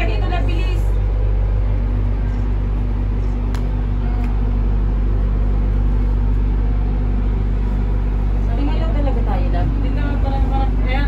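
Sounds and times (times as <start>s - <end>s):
steady low machine hum: 0.0s - 11.0s.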